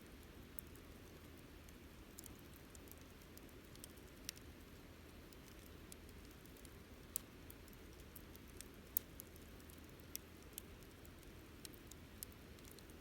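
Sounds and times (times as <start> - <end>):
campfire crackling: 0.6 - 13.0.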